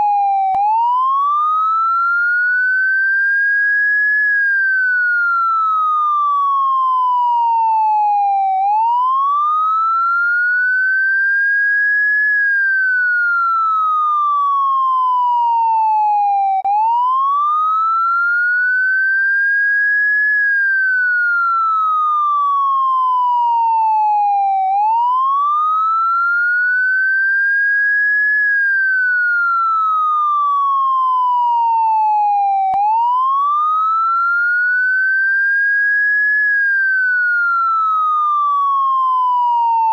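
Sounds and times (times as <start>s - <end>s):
electronic police siren: 0.0s - 39.9s.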